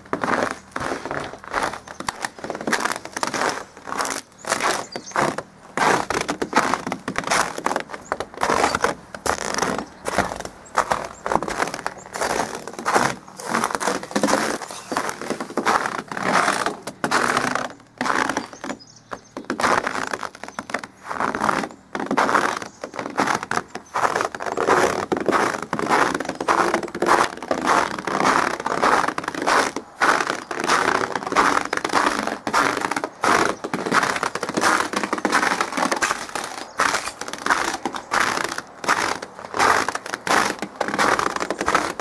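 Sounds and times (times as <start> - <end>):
boots crunching through snow: 0.1 - 42.0.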